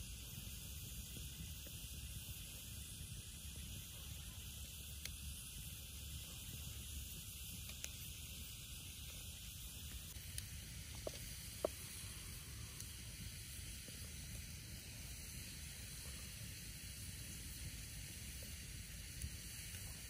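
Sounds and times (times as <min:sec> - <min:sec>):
food sizzling: 0:00.0 - 0:20.0.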